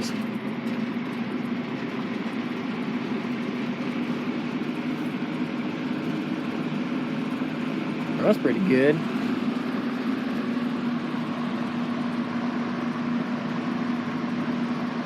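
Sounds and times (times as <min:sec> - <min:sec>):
air rushing from fan blades: 0:00.0 - 0:15.0
fan motor hum: 0:00.0 - 0:15.0.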